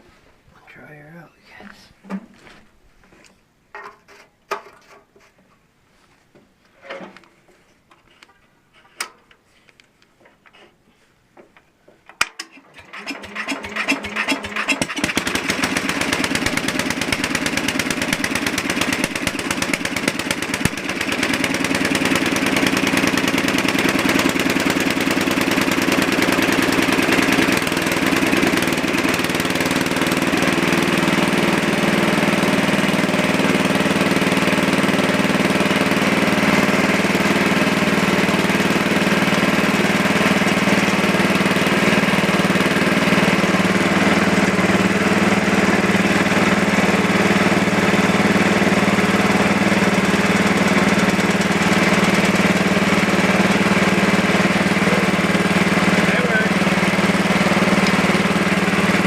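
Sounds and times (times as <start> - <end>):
tractor engine cranking and running: 11.5 - 59.0.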